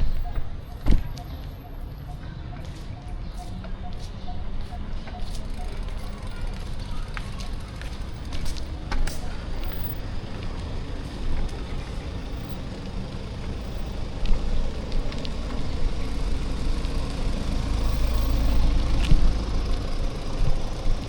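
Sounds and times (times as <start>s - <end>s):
vehicles passing: 0.0s - 21.0s.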